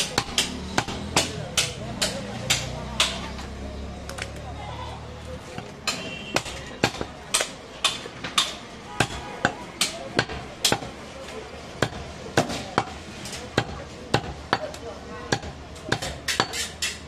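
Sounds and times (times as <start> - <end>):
cleaver chopping meat and bone: 0.0 - 3.3, 5.5 - 11.0, 11.8 - 17.0.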